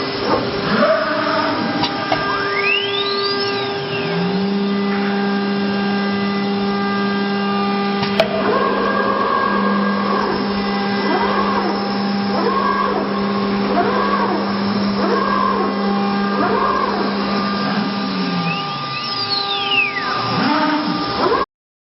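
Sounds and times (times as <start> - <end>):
router spindle running: 0.0 - 21.5.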